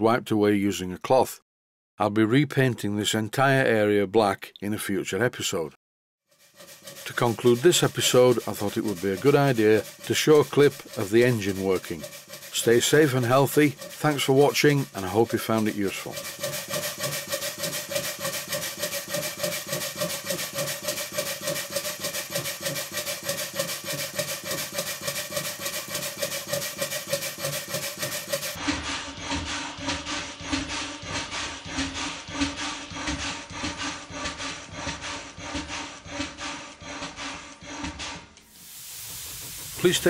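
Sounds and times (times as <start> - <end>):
model steam engine chuffing: 6.3 - 40.0.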